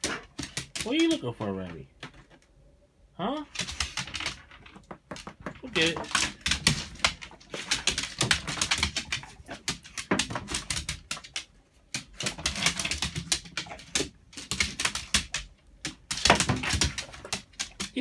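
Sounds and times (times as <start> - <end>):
dog claws clicking on vinyl floor: 0.0 - 2.4, 3.5 - 18.0.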